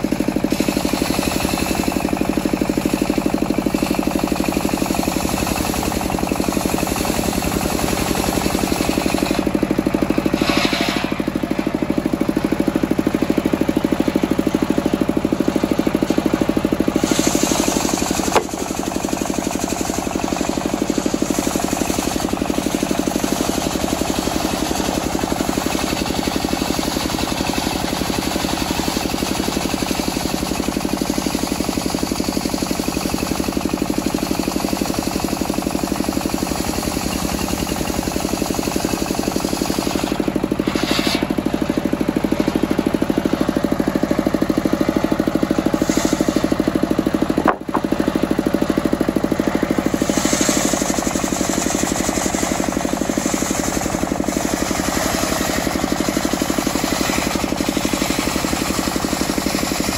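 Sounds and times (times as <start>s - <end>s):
diesel engine knocking: 0.0s - 59.9s
circular saw ripping wood: 0.3s - 59.9s.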